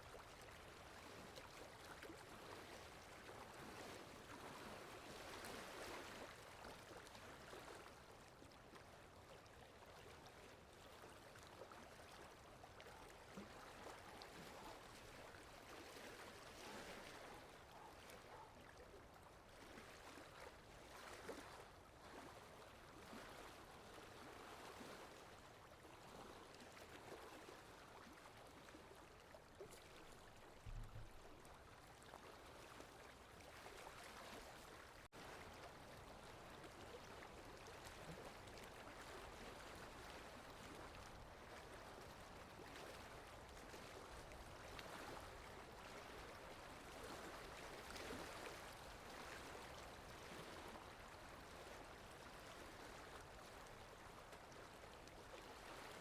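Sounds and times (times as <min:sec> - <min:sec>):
water lapping: 0:00.0 - 0:56.0
wind: 0:00.0 - 0:56.0.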